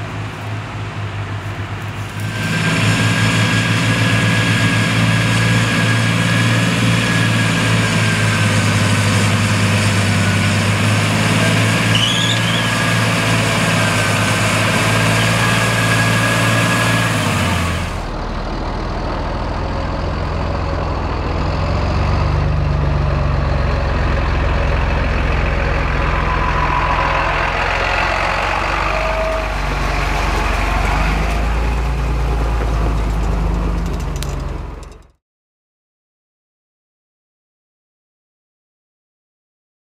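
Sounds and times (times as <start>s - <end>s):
rough engine driving past: 0.0s - 35.1s
tractor diesel engine running: 0.0s - 35.2s.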